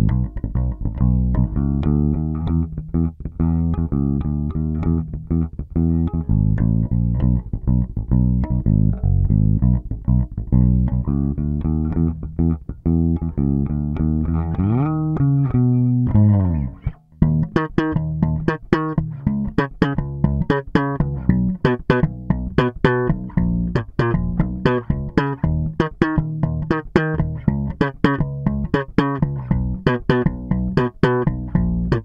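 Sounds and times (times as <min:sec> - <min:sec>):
electric bass plucked notes: 0:00.0 - 0:32.0.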